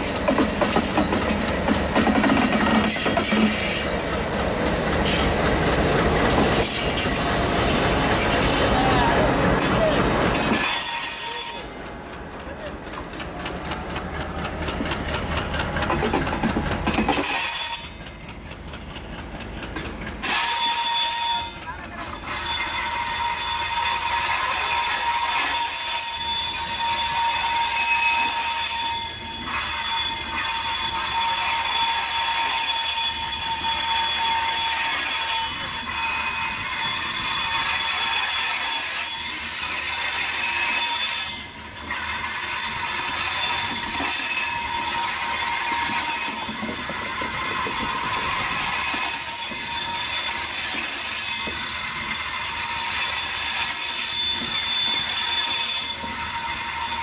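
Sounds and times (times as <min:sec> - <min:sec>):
train running noise: 0:00.0 - 0:57.0
train wheels squealing on rails: 0:00.0 - 0:57.0.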